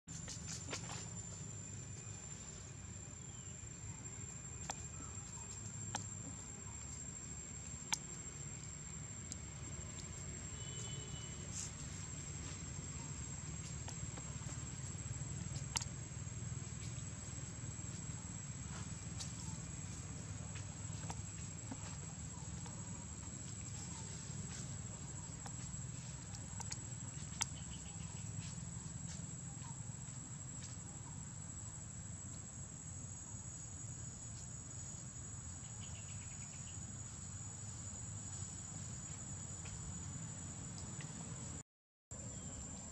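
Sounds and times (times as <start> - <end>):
insect chirps: 0.1 - 41.6, 42.2 - 42.9
insect high-pitched whine: 0.1 - 41.6.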